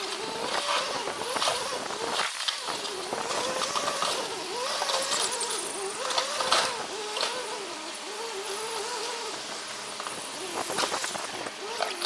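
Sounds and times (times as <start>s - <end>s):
forklift engine and hydraulics: 0.0s - 12.0s.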